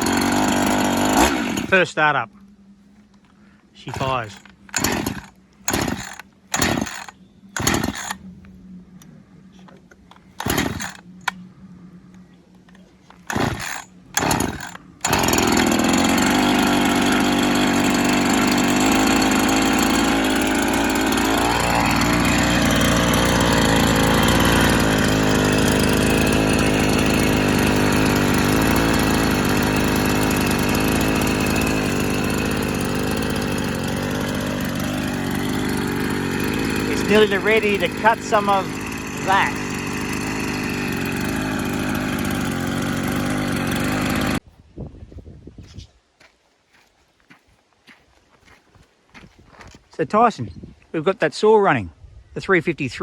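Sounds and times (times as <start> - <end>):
chainsaw engine starting and running: 0.0 - 2.3, 3.1 - 44.5.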